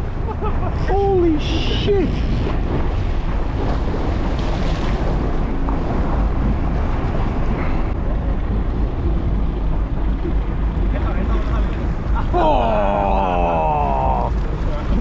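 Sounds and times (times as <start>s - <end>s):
water washing against hull: 0.0s - 15.0s
wind buffeting microphone: 0.0s - 15.0s.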